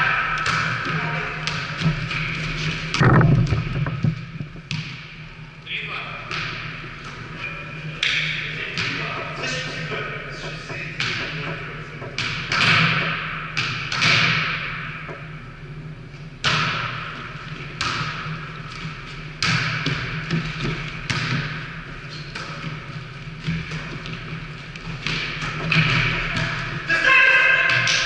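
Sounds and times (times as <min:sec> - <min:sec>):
volleyball smacks echoing in gym: 0:00.0 - 0:15.5, 0:16.4 - 0:28.0.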